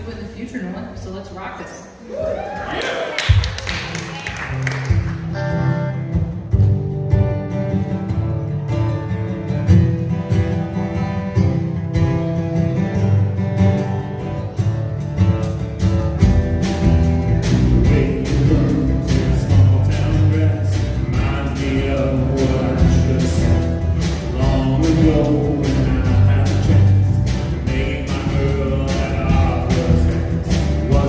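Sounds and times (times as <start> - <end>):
acoustic guitars strumming: 3.8 - 31.0
electric guitar playing: 4.2 - 31.0.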